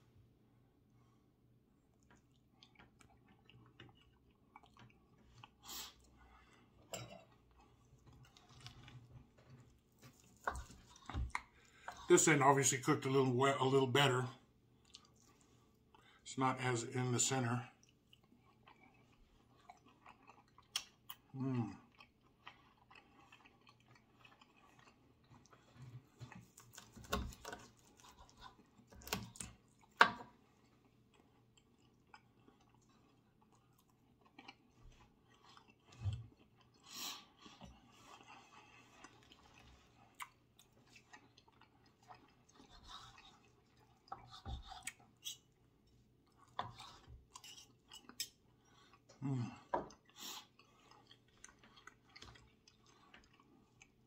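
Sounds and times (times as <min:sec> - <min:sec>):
man chewing steak: 0:00.4 - 0:13.2, 0:14.5 - 0:16.2, 0:17.7 - 0:54.0.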